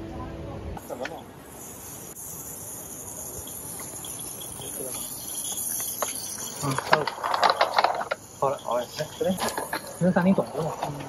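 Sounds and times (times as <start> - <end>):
steam hissing: 0.8 - 11.0.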